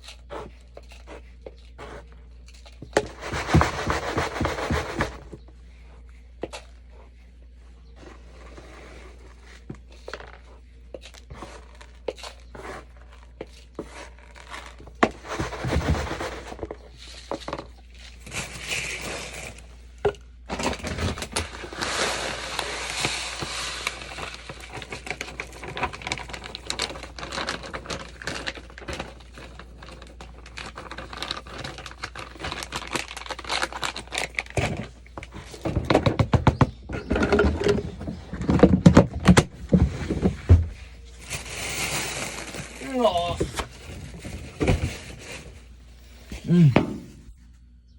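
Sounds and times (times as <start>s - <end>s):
cat litter being scooped: 0.0s - 7.2s, 7.9s - 19.8s, 20.5s - 35.8s, 39.7s - 46.4s.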